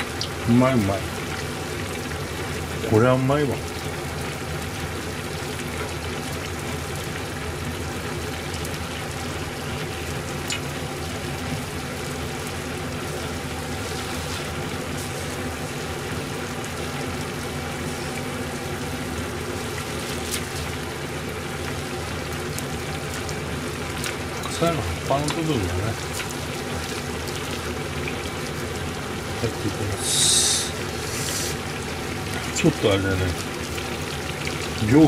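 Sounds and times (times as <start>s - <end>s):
broth simmering: 0.0s - 35.0s.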